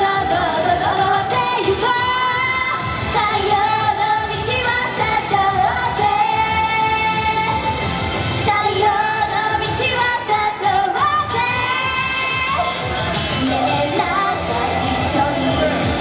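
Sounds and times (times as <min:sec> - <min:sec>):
woman singing into microphone: 0:00.0 - 0:07.8, 0:08.4 - 0:16.0
pop backing music with steady beat: 0:00.0 - 0:16.0.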